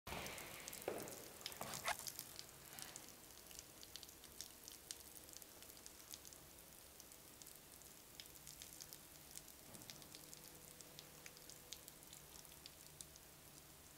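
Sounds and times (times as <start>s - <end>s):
water dripping into metal urinal: 0.1s - 13.9s.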